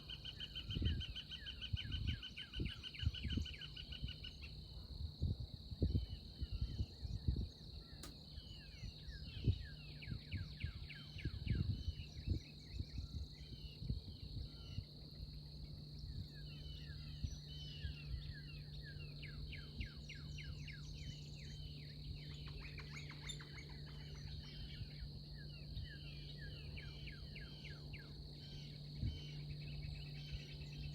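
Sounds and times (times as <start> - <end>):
high insect drone: 0.0 - 30.9
steady low hum: 0.0 - 30.9
small birds chirping: 5.8 - 30.9.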